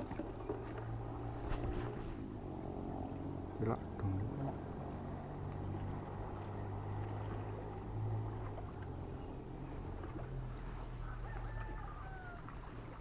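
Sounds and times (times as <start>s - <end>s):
motorboat engine drone: 0.0s - 13.0s.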